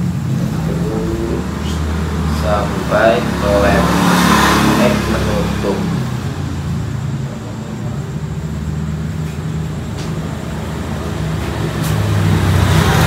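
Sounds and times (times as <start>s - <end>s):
vehicle traffic rumble: 0.0s - 13.0s.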